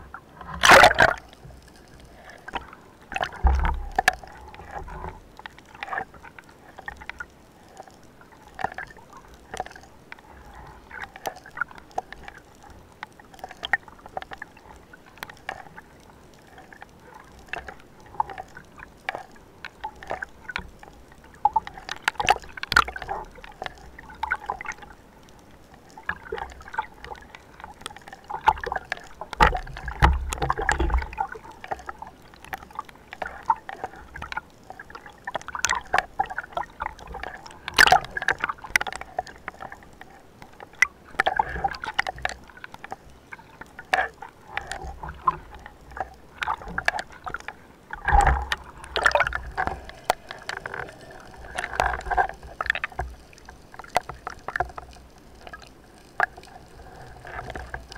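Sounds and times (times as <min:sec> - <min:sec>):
water sloshing and gurgling: 0:00.0 - 0:57.9
water splashes: 0:00.0 - 0:57.9.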